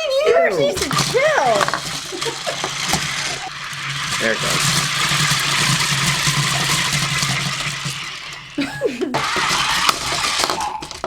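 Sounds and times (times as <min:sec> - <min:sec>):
toy motor whirring: 0:00.0 - 0:11.0.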